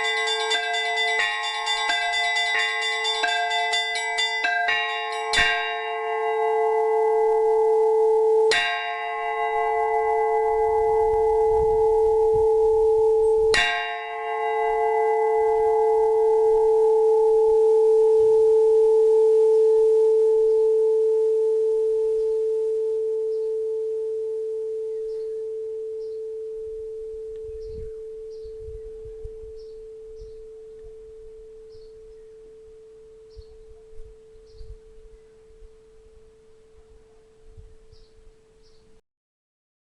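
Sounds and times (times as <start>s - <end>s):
church bell ringing: 0.0s - 35.1s.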